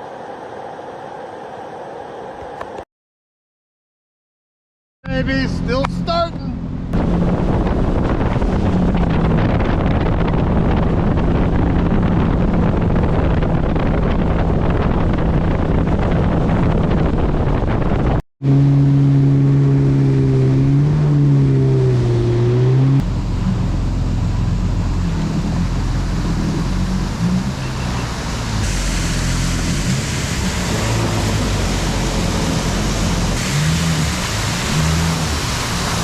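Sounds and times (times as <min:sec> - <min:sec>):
jet ski engine drone: 0:05.1 - 0:36.0
rushing wind and water: 0:06.9 - 0:36.0.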